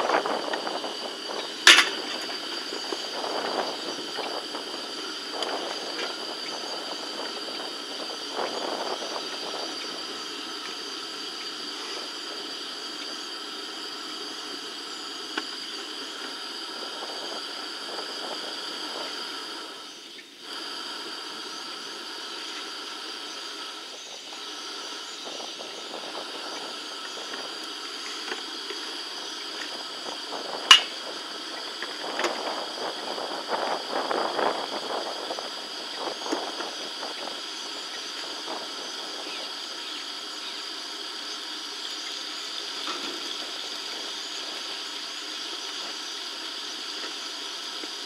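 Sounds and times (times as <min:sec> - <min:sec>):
high-pitched whines: 0:00.0 - 0:48.0
steady outdoor hiss: 0:00.0 - 0:48.0.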